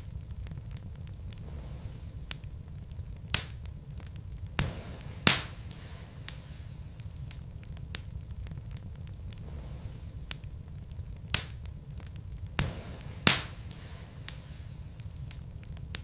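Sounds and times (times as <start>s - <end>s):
logs crackling in fireplace: 0.0s - 16.0s
low rumble of fire: 0.0s - 16.0s
sharp pops of burning wood: 0.0s - 16.0s.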